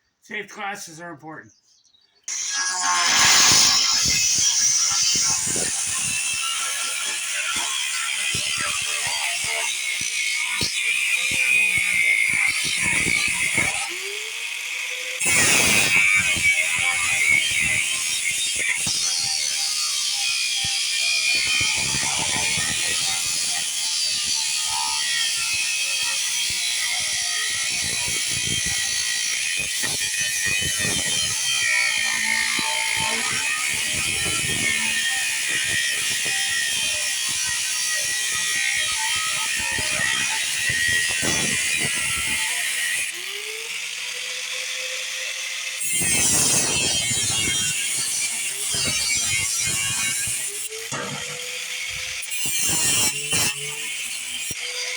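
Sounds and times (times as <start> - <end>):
angle grinder cutting metal: 2.3 - 54.9.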